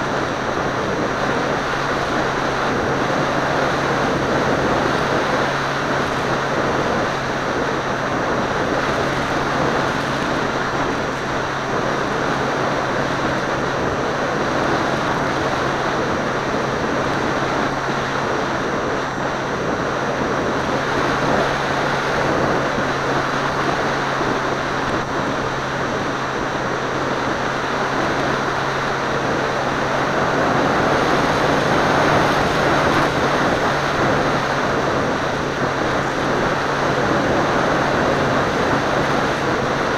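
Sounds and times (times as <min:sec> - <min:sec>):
seaplane motor and propeller drone: 0:00.0 - 0:39.9
wind rushing over microphone: 0:00.0 - 0:39.9.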